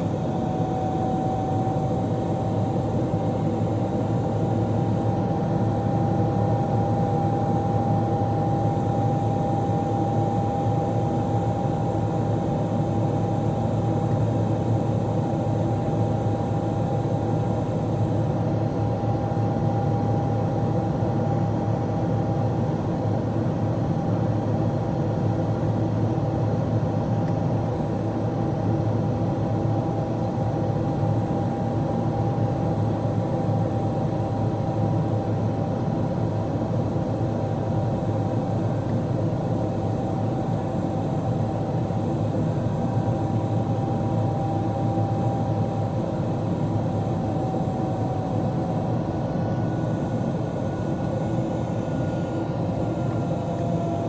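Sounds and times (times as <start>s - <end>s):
engine fan whine: 0.0s - 54.0s
jet engines and airflow rush: 0.0s - 54.0s.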